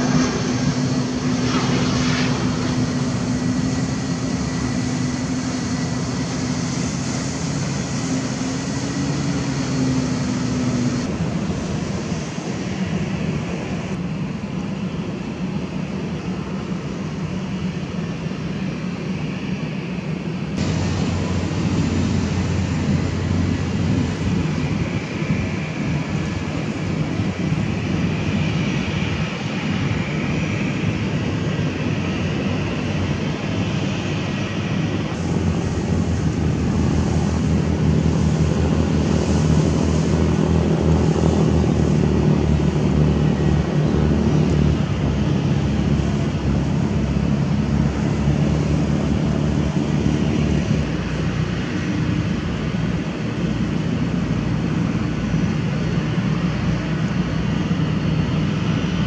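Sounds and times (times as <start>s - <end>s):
jet engine rumble with whine: 0.0s - 59.0s.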